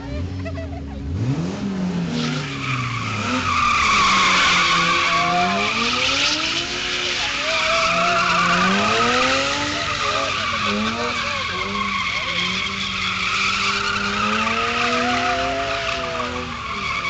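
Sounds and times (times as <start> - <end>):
car engine revving: 0.0 - 17.0
tyres screeching: 2.1 - 17.0.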